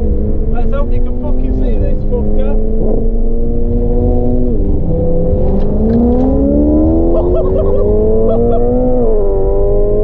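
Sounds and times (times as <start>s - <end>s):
car engine accelerating: 0.0s - 10.0s
road and wind rumble: 0.0s - 10.0s.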